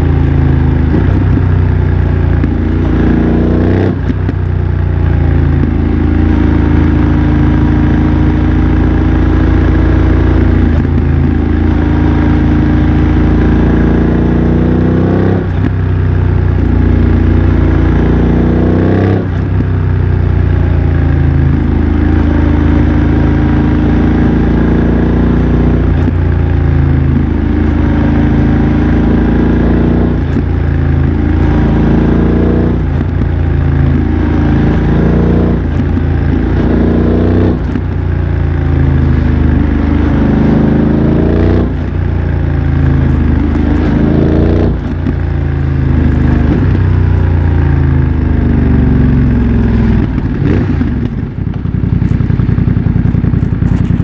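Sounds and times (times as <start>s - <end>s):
motorcycle engine while riding: 0.0s - 54.0s.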